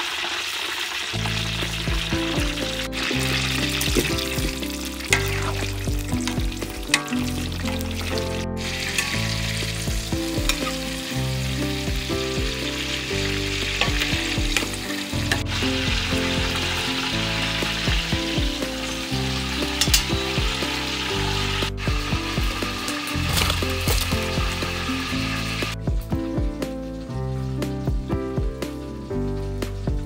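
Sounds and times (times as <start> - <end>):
frying hiss in hot oil: 0.0 - 30.0
sharp clicks of frying: 0.0 - 30.0
background music: 1.2 - 30.0.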